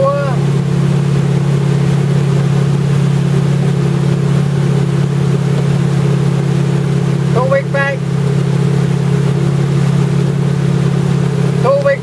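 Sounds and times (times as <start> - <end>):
boat engine humming: 0.0 - 12.0
water rushing: 0.0 - 12.0.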